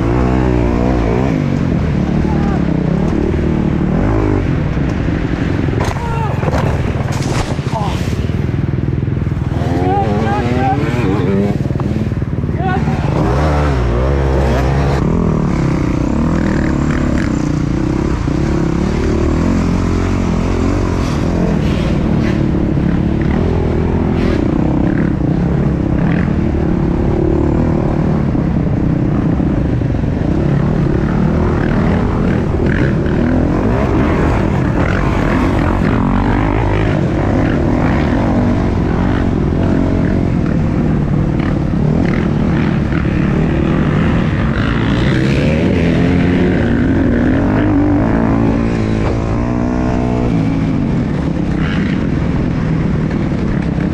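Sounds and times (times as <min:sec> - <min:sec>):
dirt bike engine revving: 0:00.0 - 0:08.6, 0:09.2 - 0:53.9.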